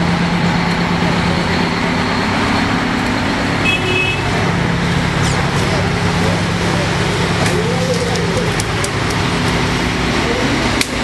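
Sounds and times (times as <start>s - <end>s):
street traffic: 0.0s - 11.0s
truck engine idling: 0.0s - 11.0s.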